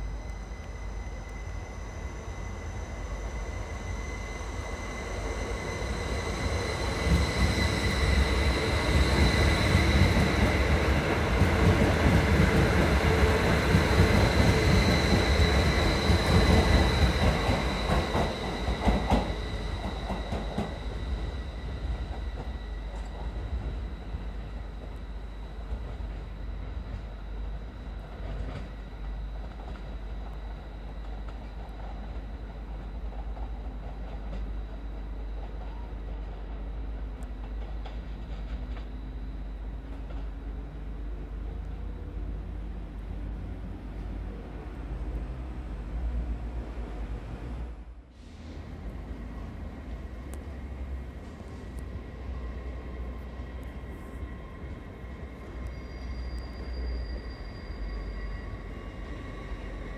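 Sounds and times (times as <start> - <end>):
electric train passing: 0.0 - 59.9
train approaching: 0.0 - 59.9.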